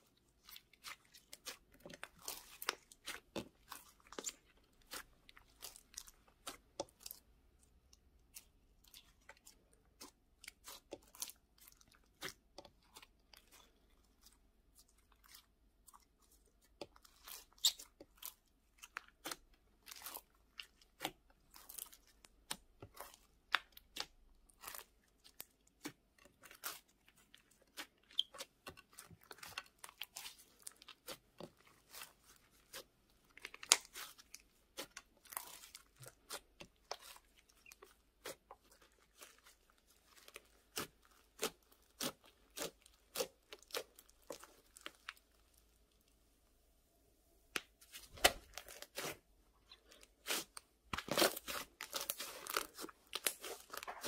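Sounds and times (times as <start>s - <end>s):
slime squelching and popping: 0.0s - 45.8s, 47.6s - 54.0s.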